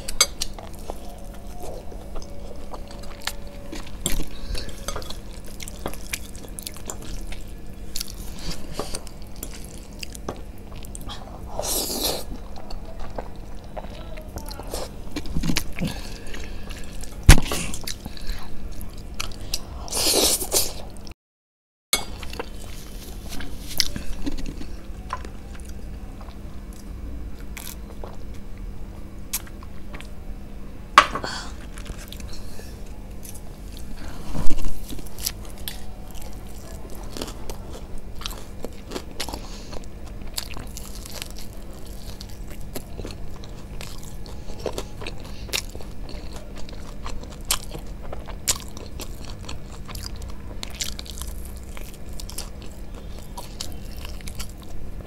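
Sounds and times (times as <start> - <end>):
chewing crunchy fried chicken: 0.0 - 21.1, 22.0 - 30.2, 31.3 - 55.0.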